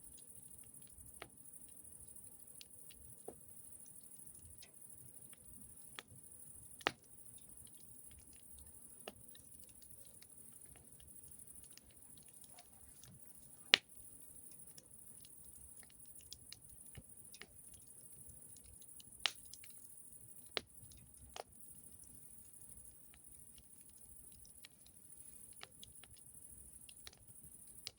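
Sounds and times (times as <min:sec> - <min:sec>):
campfire crackling: 0:00.0 - 0:27.9
faint steady hiss: 0:00.0 - 0:27.9.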